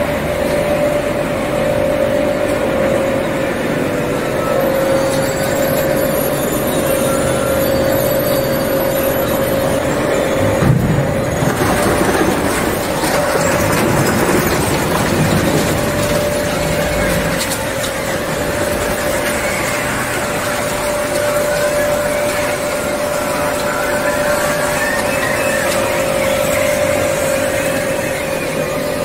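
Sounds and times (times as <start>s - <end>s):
constant hum: 0.0s - 29.0s
mechanical machinery noise: 0.0s - 29.0s.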